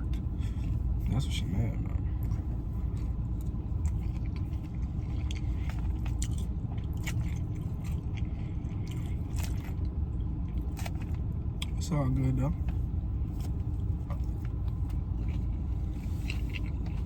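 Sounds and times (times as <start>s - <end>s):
chewing and crunching food: 0.0s - 17.0s
steady low rumble: 0.0s - 17.0s.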